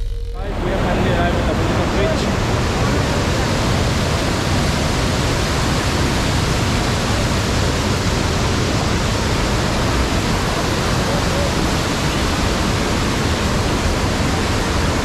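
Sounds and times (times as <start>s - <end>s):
rushing falling water: 0.4s - 15.0s.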